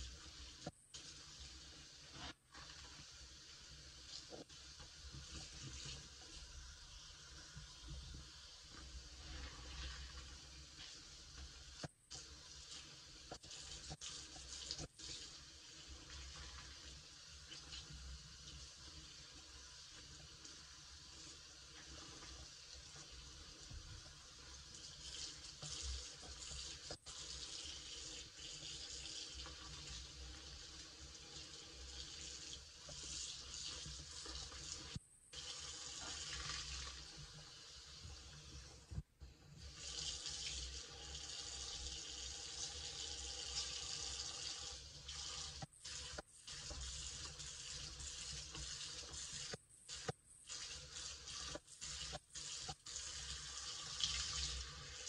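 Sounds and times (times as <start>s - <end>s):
faucet running into sink: 0.1s - 38.8s, 39.6s - 55.0s.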